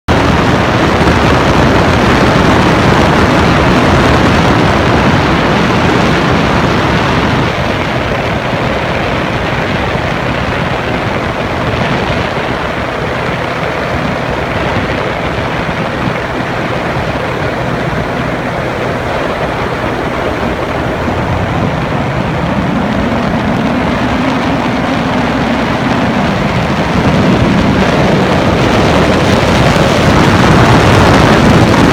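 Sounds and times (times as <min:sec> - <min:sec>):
engine running: 0:00.1 - 0:31.9
loud rushing noise: 0:00.1 - 0:31.9.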